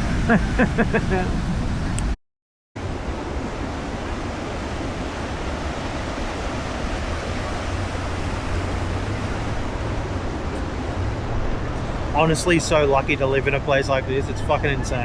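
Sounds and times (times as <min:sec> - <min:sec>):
ocean surf washing on beach: 0:00.0 - 0:02.2, 0:02.8 - 0:15.0
wind rumble on microphone: 0:00.0 - 0:02.2, 0:02.8 - 0:15.0.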